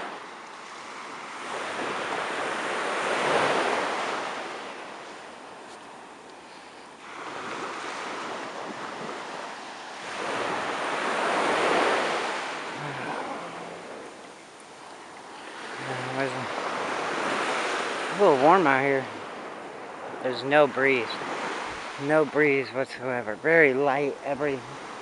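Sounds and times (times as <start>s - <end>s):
surf breaking on shore: 0.0s - 25.0s.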